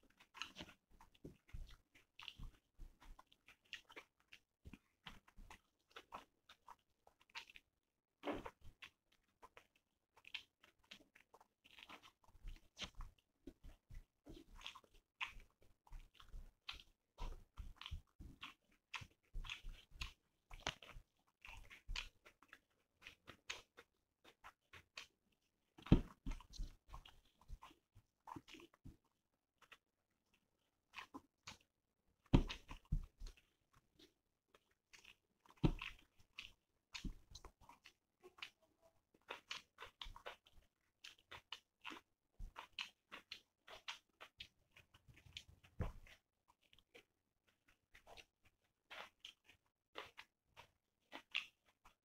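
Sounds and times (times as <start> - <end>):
person chewing with mouth smacks: 0.0 - 52.0.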